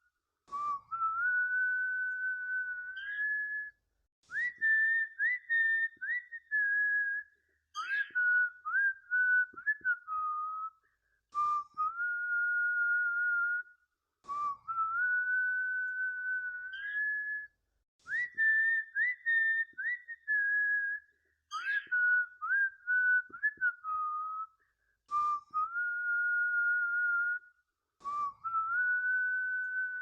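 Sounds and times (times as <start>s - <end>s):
whistled melody: 0.0s - 30.0s.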